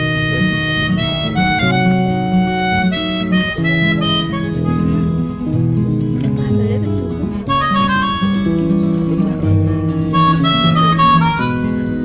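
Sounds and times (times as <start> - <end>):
harmonica melody: 0.0 - 12.0
strummed acoustic guitar: 0.0 - 12.0.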